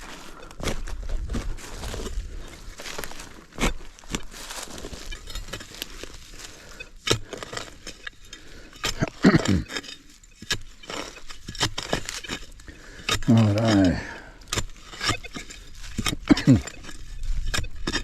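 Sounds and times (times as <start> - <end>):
shovel scraping stony ground: 0.0 - 18.0.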